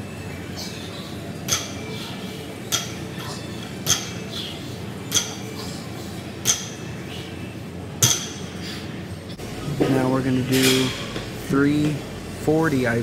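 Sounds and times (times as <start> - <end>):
low gym hum: 0.0 - 13.0.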